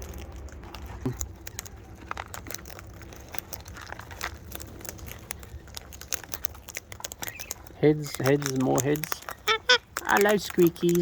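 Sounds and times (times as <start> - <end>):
parrot beaks cracking seed: 0.0 - 11.0.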